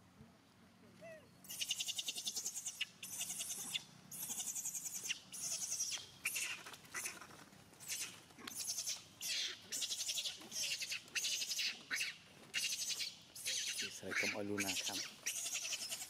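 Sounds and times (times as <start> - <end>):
monkey screaming: 1.0 - 16.0.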